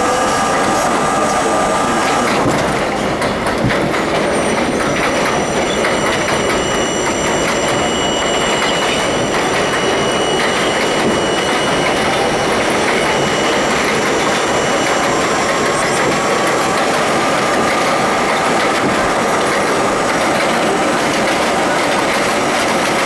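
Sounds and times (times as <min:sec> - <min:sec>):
clickety-clack of rail joints: 0:00.0 - 0:23.0
train wheels rumbling on rail: 0:00.0 - 0:23.0.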